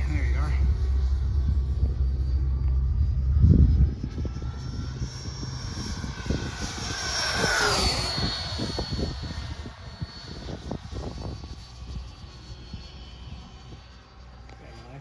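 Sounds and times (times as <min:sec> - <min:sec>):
electric ducted fan whining: 0:00.0 - 0:13.8
wind buffeting microphone: 0:00.0 - 0:14.2.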